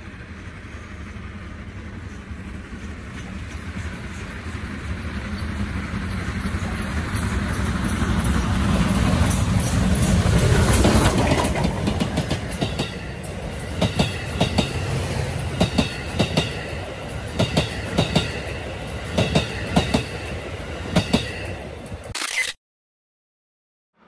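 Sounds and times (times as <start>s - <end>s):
steam locomotive passing: 0.0s - 22.1s
train wheels clacking on rail joints: 2.0s - 22.0s.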